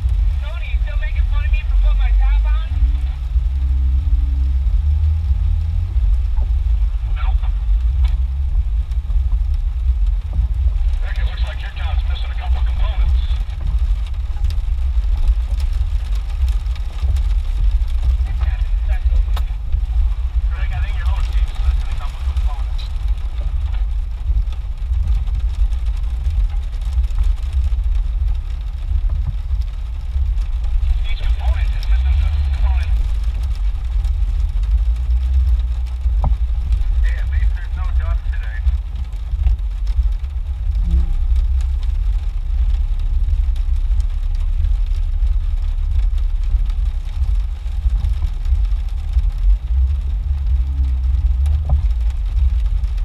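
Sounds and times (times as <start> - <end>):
car engine drone from cabin: 0.0 - 53.0.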